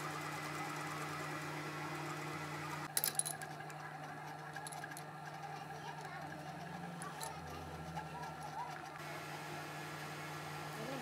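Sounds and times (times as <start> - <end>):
metal lathe running: 0.0 - 11.0.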